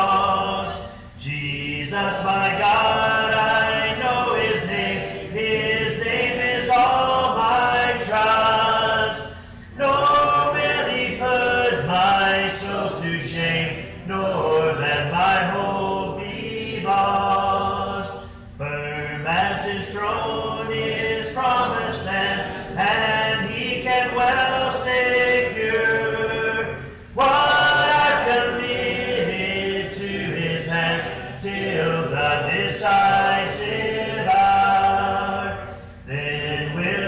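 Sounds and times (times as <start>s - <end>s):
group singing a hymn a cappella: 0.0s - 37.0s.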